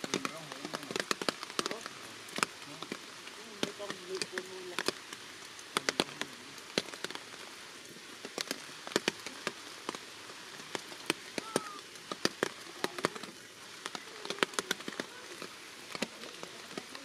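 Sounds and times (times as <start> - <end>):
large raindrops tapping: 0.0 - 17.0
rain hissing: 0.0 - 17.0.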